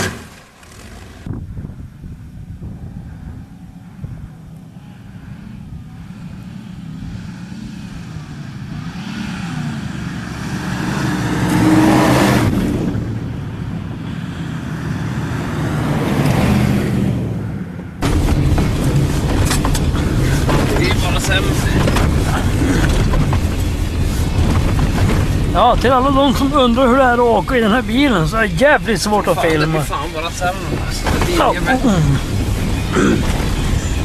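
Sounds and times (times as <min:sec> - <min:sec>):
truck engine revving: 0:00.0 - 0:01.4, 0:02.1 - 0:34.0.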